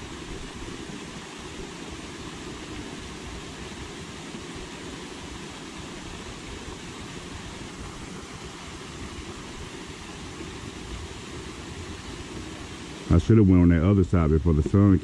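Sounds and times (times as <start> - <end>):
fountain spraying hiss: 0.0 - 15.0.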